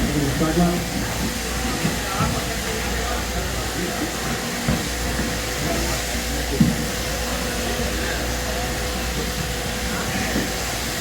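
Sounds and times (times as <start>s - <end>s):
electric shearing machines running: 0.0s - 11.0s.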